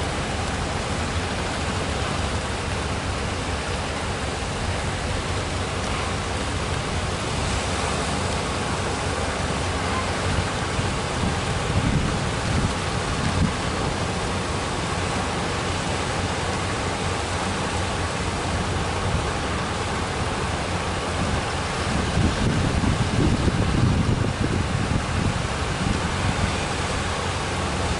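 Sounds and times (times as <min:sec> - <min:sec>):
low rumbles: 0:00.0 - 0:27.9
ocean surf breaking: 0:00.0 - 0:27.9.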